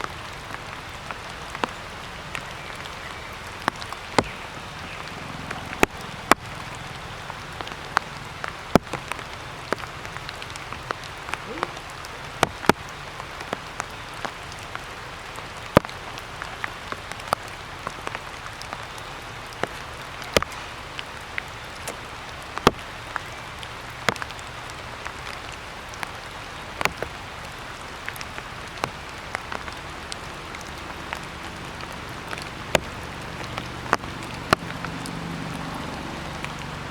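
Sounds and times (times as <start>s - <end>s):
raindrops dripping from trees: 0.0s - 36.9s.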